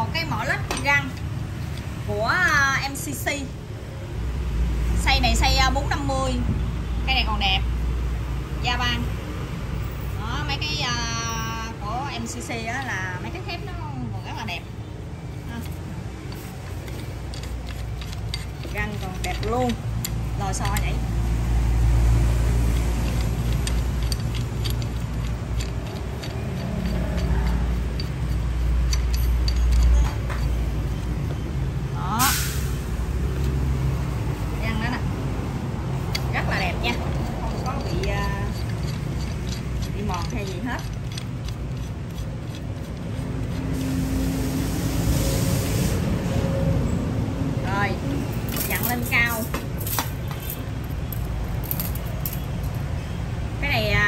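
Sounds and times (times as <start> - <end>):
road traffic rumble: 0.0 - 54.0
passing vehicle engine hum: 3.6 - 54.0.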